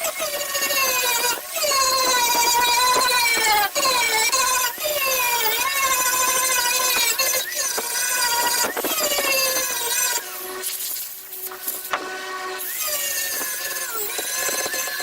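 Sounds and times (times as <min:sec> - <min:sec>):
power grinder grinding: 0:00.0 - 0:15.0.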